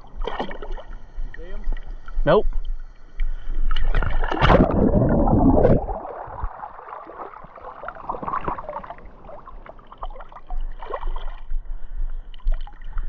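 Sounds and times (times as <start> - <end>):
water splashing and gurgling: 0.0 - 13.0.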